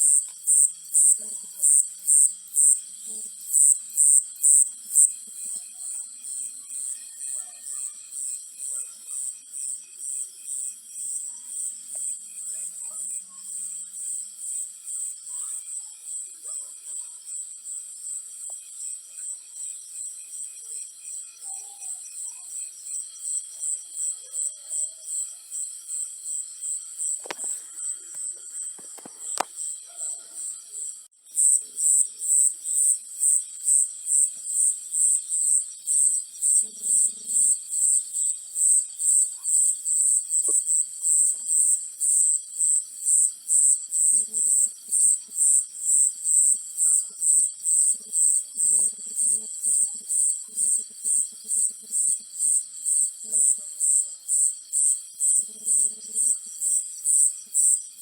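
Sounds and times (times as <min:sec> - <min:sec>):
cricket-like insect chirping: 0:00.0 - 0:58.0.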